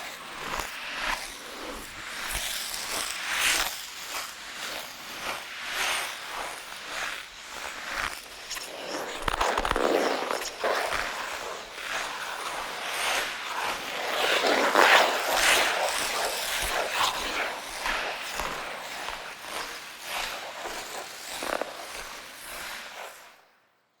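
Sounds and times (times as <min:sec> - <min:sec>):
ice skates scraping on ice: 0:00.0 - 0:23.4.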